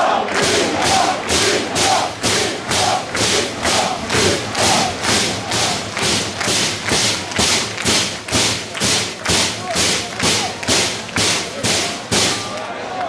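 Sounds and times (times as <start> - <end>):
crowd clapping in rhythm: 0.0 - 13.0.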